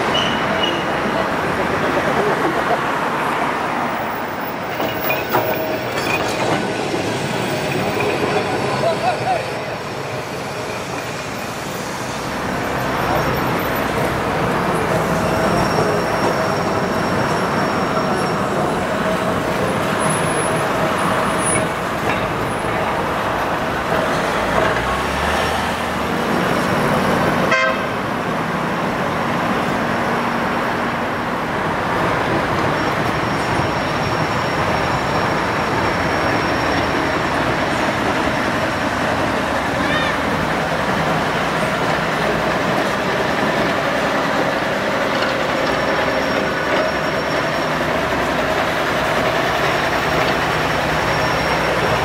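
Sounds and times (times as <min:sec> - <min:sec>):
traffic passing: 0:00.0 - 0:52.0.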